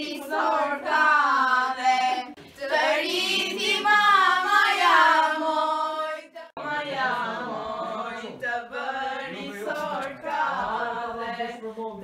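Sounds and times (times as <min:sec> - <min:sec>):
girls singing unaccompanied: 0:00.0 - 0:12.0.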